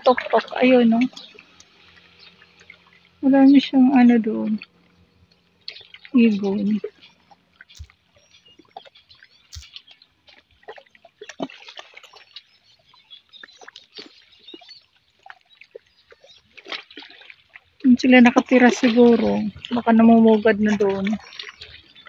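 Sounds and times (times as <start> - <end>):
seawater lapping at shore: 0.0 - 22.0
water dripping among rocks: 0.0 - 22.0.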